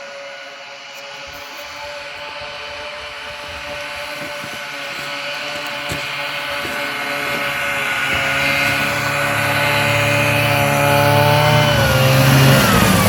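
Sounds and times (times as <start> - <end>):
snowmobile engine passing: 0.0 - 13.0.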